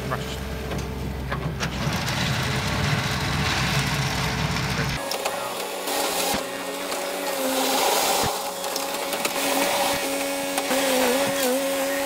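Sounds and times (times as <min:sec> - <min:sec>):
skid steer loader whine: 0:00.0 - 0:12.0.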